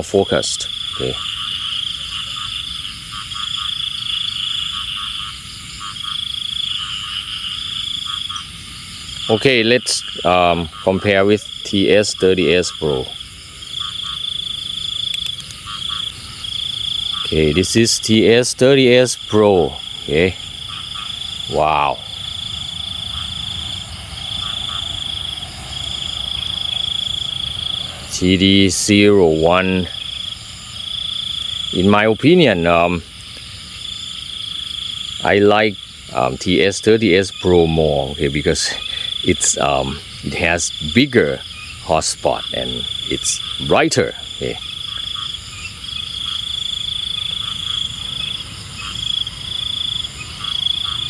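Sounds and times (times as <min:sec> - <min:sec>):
frogs croaking: 0:00.0 - 0:51.0
high-pitched insect trill: 0:00.0 - 0:51.0.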